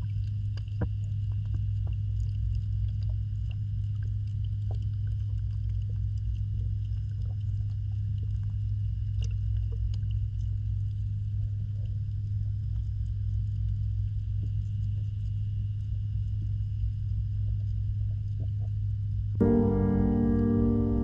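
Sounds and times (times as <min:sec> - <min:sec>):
faint clicks and ticks: 0:00.0 - 0:21.0
underwater pump hum: 0:00.0 - 0:21.0.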